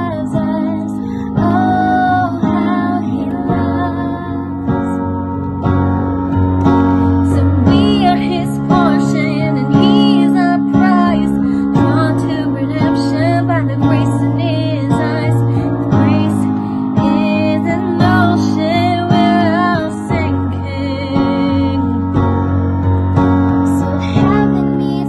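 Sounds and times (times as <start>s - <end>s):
woman singing: 0.0s - 5.0s, 7.0s - 22.2s, 23.7s - 25.0s
strummed acoustic guitar: 0.0s - 25.0s.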